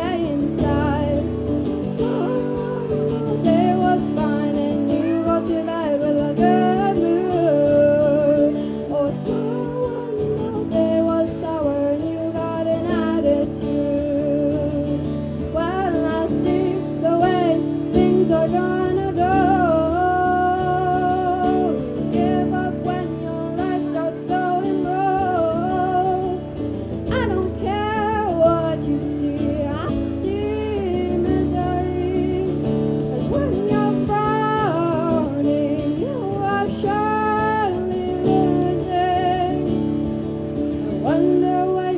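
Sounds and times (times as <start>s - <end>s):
guitar accompaniment: 0.0s - 41.9s
woman singing: 0.0s - 41.9s.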